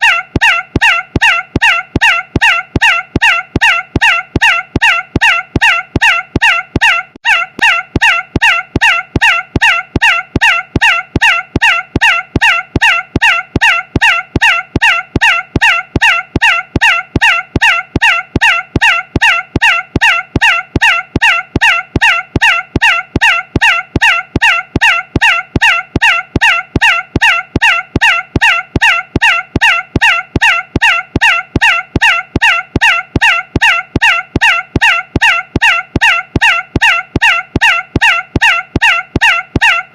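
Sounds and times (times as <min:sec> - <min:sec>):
shrill squawk-like sound: 0:00.0 - 0:39.9.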